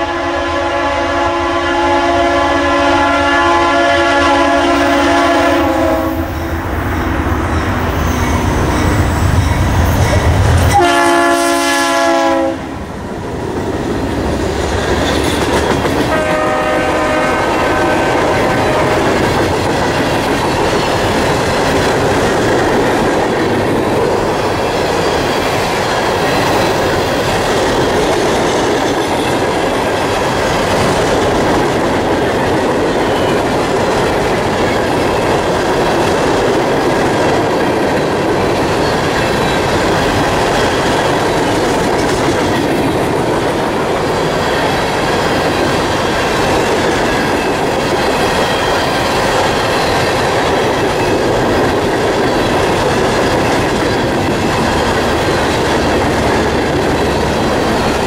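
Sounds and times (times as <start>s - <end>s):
rail cars rumbling and rattling: 0.0s - 58.0s.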